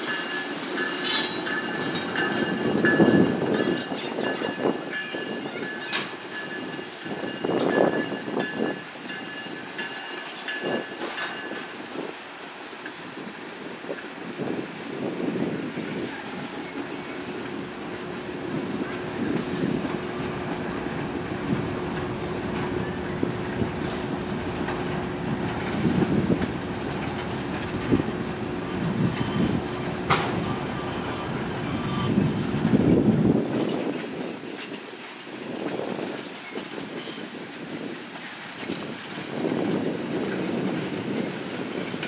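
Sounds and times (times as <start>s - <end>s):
train wheels clacking over rail joints: 0.0s - 42.0s.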